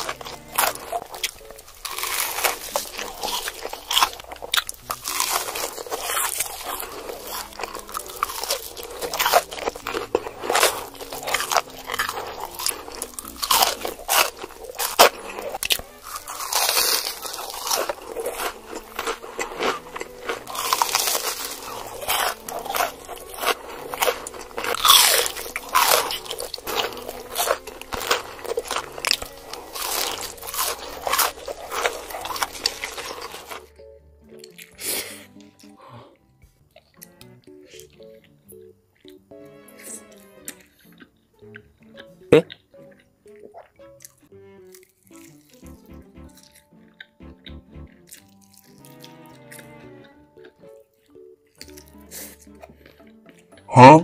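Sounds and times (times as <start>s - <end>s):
crunchy chewing: 0.0s - 33.7s, 34.3s - 35.8s, 36.7s - 53.7s.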